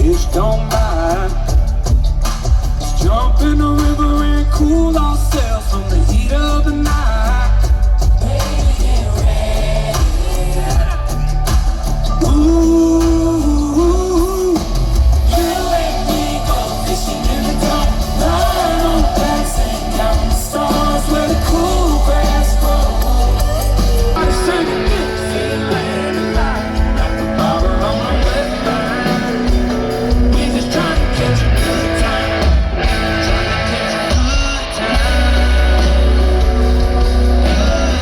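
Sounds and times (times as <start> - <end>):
guitar: 0.0 - 38.0
heavy bass line: 0.0 - 38.0
person singing: 0.0 - 38.0.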